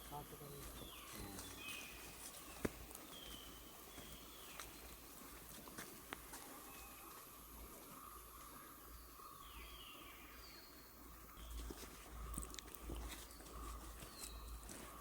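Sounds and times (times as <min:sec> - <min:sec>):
footsteps crunching on trail: 0:00.0 - 0:09.3, 0:11.3 - 0:15.0.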